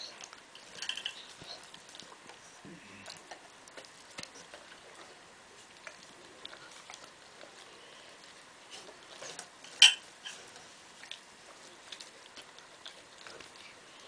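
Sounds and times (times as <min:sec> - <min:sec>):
dog eating smacking: 0:00.0 - 0:14.0.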